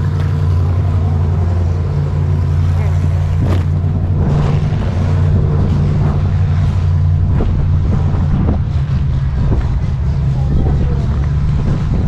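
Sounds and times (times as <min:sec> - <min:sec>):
engine idling: 0:00.0 - 0:12.0
wind buffeting microphone: 0:00.0 - 0:12.0.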